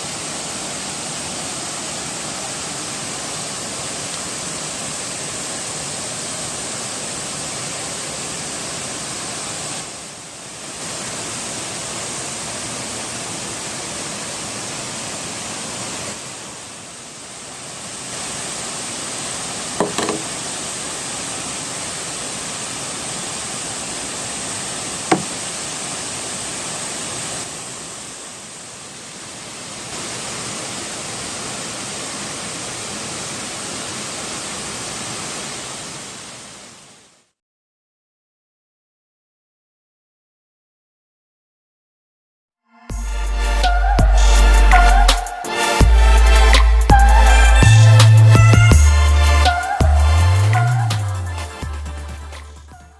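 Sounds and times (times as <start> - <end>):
waterfall rushing: 0.0 - 37.2, 43.2 - 52.4.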